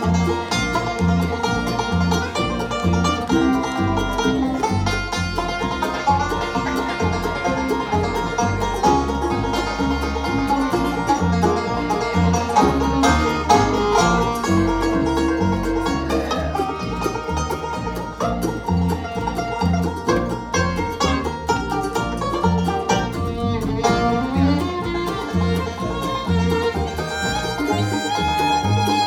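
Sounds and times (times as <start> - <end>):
banjo: 0.0 - 29.0
bluegrass string band: 0.0 - 29.0.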